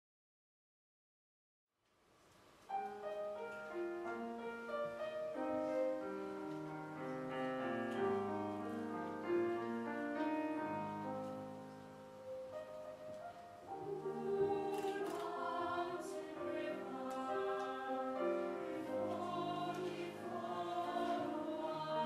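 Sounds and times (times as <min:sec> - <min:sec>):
faint hall noise: 0:01.8 - 0:22.0
grand piano playing: 0:02.7 - 0:22.0.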